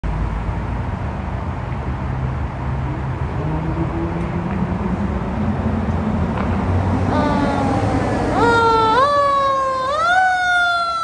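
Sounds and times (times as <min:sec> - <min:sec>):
street traffic: 0:00.0 - 0:11.0
diesel engine revving: 0:02.1 - 0:11.0.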